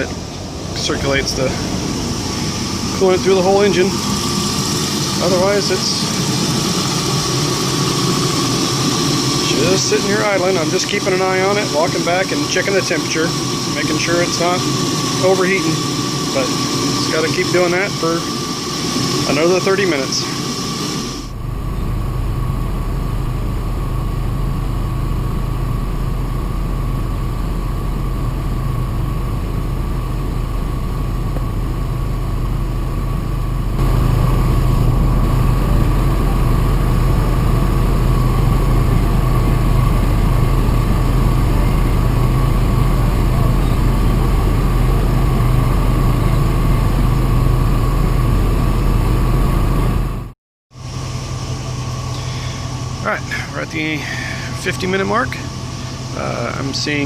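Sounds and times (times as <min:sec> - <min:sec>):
car engine idling: 0:00.0 - 0:20.4, 0:21.0 - 0:50.1
high whine: 0:00.0 - 0:57.0.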